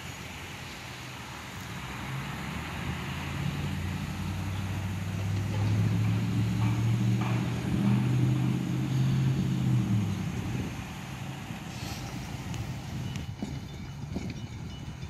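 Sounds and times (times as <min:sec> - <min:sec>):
diesel locomotive engines humming: 0:00.0 - 0:15.0.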